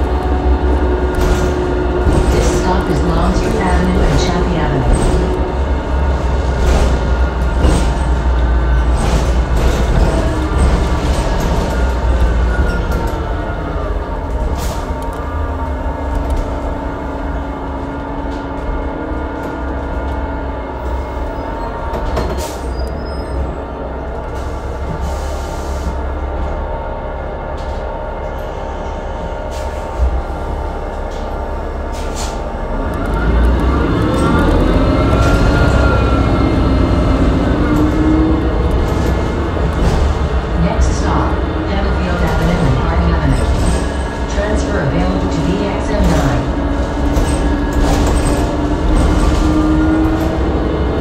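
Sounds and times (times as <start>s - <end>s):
bus engine droning: 0.0s - 51.0s.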